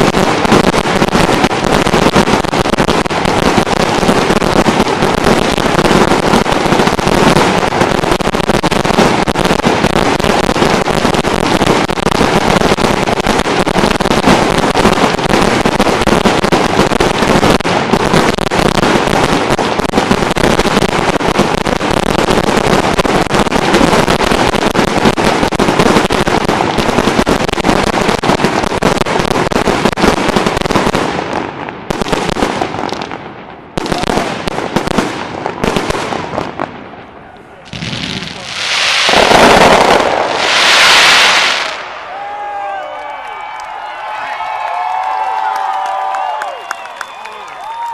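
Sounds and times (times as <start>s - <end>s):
fireworks barrage: 0.0s - 47.9s.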